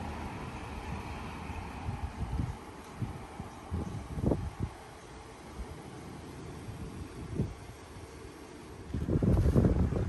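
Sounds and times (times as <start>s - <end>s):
wind buffeting microphone: 0.0s - 5.8s, 6.4s - 10.0s.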